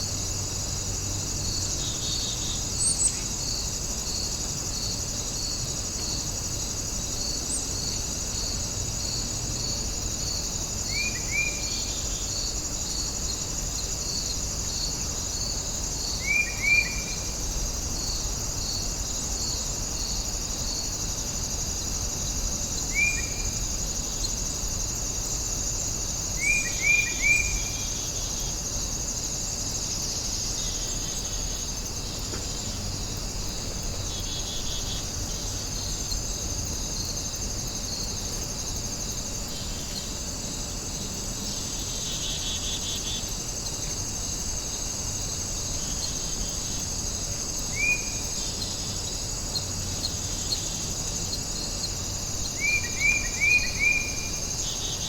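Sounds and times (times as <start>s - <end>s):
insects and crickets chorus: 0.0s - 55.0s.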